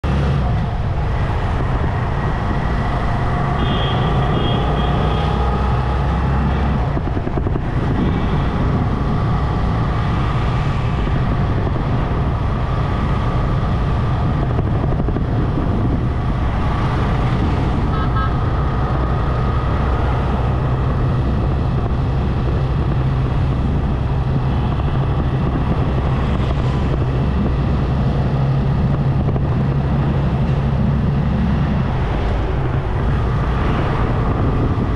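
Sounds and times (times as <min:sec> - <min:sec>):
city traffic: 0:00.0 - 0:34.9
wind and road noise: 0:00.0 - 0:34.9.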